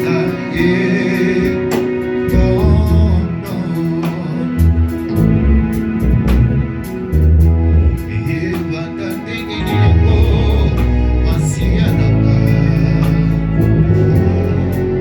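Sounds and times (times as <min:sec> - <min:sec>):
deep bass notes: 0:00.0 - 0:15.0
guitar: 0:00.0 - 0:15.0
steady drum beat: 0:00.0 - 0:15.0
voices singing: 0:00.0 - 0:15.0.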